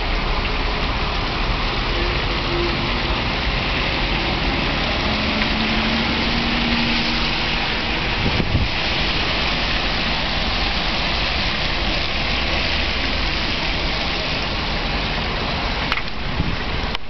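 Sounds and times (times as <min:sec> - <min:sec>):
tyres swishing through wet snow: 0:00.0 - 0:17.0.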